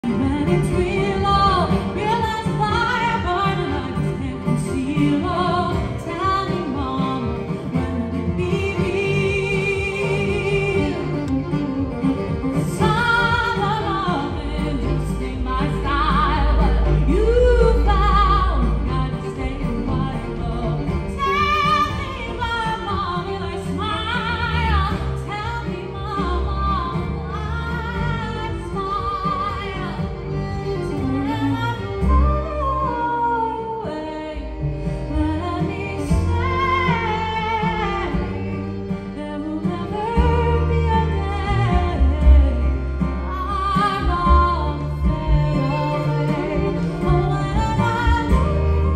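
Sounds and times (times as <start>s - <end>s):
acoustic guitar: 0.0s - 48.9s
fiddle: 0.0s - 48.9s
upright double bass: 0.0s - 48.9s
woman singing with vibrato: 0.0s - 48.9s.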